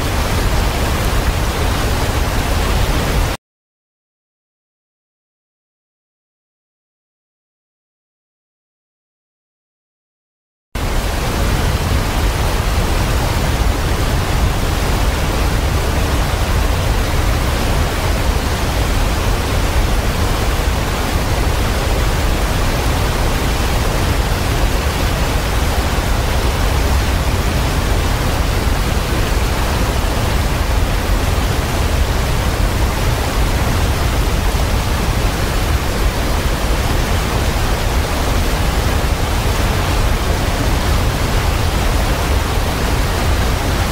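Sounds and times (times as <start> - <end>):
waterfall rushing: 0.0 - 3.4, 10.8 - 43.9.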